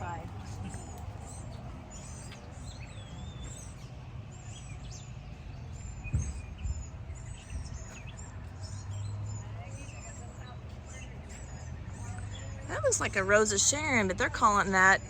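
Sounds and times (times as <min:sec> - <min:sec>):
songbirds chirping and singing: 0:00.0 - 0:15.0
steady low rumble: 0:00.0 - 0:15.0.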